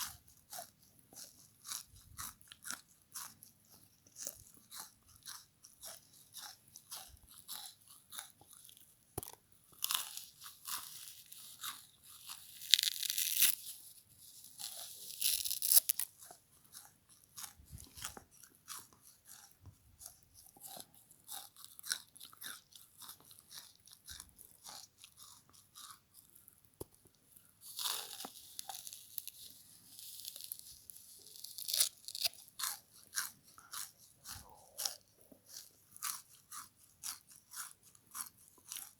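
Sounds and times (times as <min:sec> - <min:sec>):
crunchy chewing and biting: 0:00.0 - 0:38.9.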